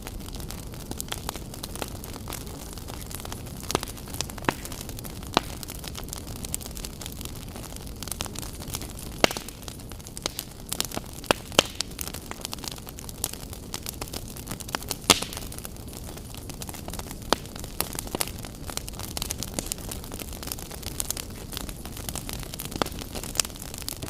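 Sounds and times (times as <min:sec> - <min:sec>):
fire crackling and popping: 0:00.0 - 0:24.0
fire hissing: 0:00.0 - 0:24.0.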